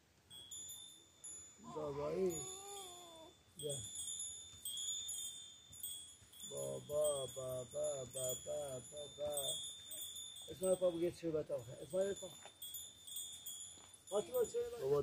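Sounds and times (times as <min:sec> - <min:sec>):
high chime-like ringing: 0:00.3 - 0:15.0.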